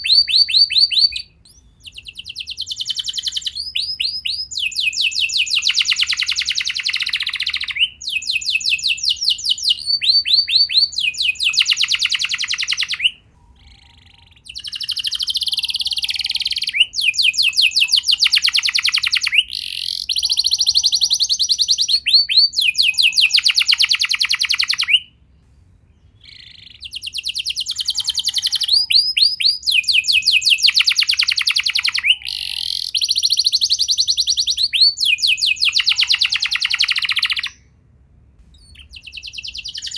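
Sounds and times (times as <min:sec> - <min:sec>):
canary singing rapid trills: 0:00.0 - 0:25.1, 0:26.0 - 0:37.6, 0:38.6 - 0:39.9.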